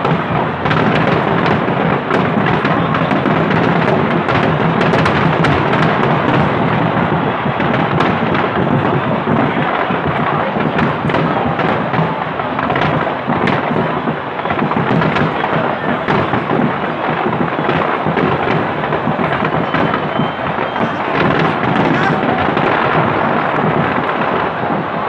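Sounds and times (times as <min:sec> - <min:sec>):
booming rumble: 0:00.0 - 0:25.0
fireworks bangs and crackles: 0:00.0 - 0:25.0.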